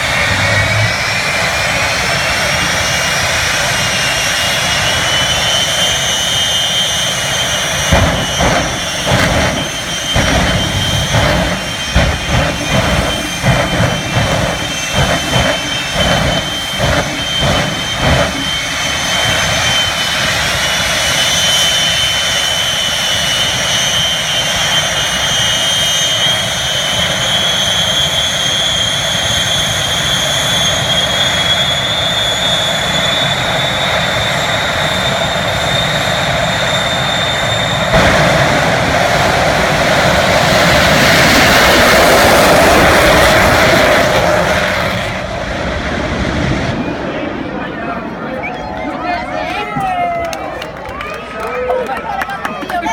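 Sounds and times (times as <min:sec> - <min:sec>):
high turbine whine: 0:00.0 - 0:50.4
jet engine roar: 0:00.0 - 0:52.9.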